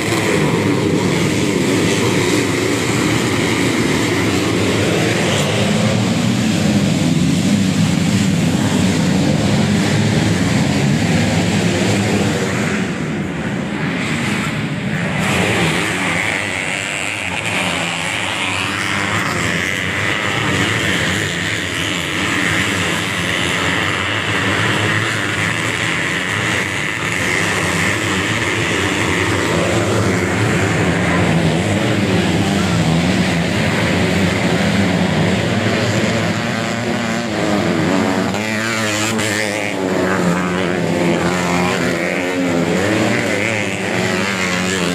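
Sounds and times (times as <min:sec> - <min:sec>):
motorcycle engines revving hard: 0:00.0 - 0:44.9.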